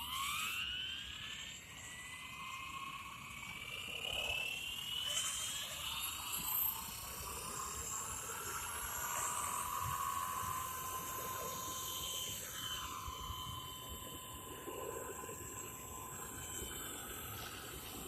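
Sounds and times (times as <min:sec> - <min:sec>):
rc helicopter rotor whine: 0:00.0 - 0:18.0.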